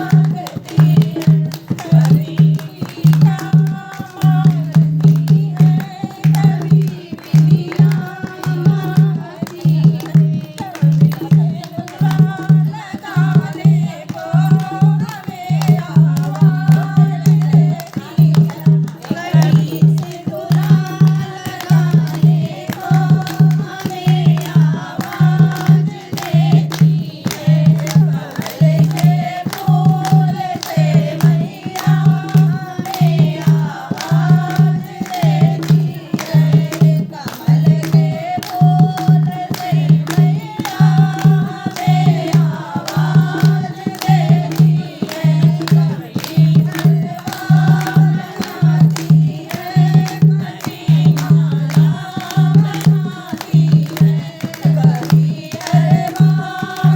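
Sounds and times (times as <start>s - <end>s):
hand drum beat: 0.0s - 56.9s
person singing devotional song: 0.0s - 56.9s.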